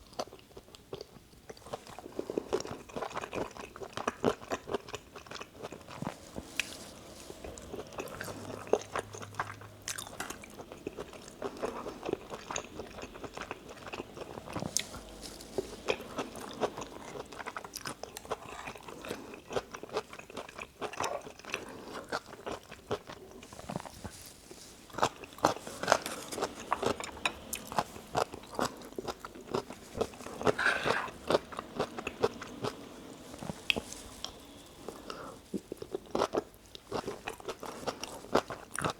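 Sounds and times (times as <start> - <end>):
close-miked chewing and biting: 0.0 - 38.9.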